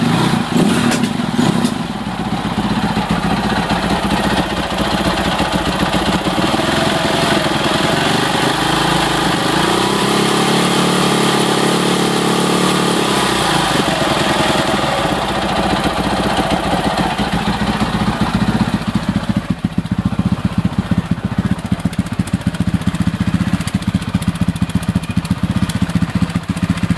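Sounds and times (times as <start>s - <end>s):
motorcycle engine knocking and ticking: 0.0s - 26.9s.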